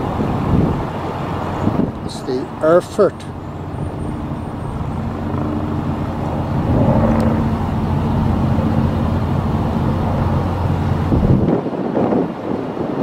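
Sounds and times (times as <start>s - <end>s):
engine humming: 0.0s - 11.6s.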